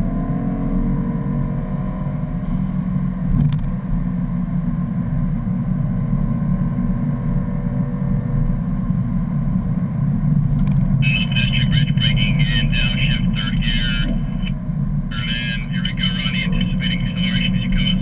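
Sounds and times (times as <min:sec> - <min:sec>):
in-cabin engine drone: 0:00.0 - 0:18.0
road noise: 0:00.0 - 0:18.0.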